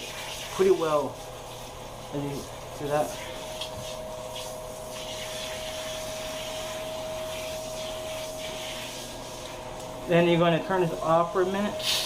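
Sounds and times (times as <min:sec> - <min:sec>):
shower head spraying water: 0:00.0 - 0:12.0.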